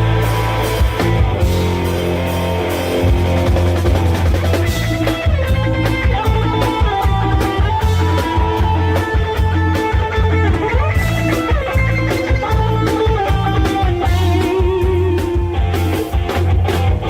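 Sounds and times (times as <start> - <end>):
electric guitar lead: 0.0 - 17.0
loud live band music: 0.0 - 17.0.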